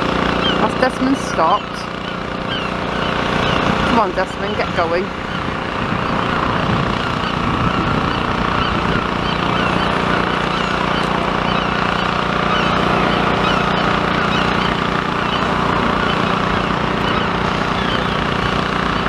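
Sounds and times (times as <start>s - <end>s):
low engine hum: 0.0s - 19.0s
faint bird calls: 0.2s - 19.0s
wind on microphone: 0.8s - 19.0s.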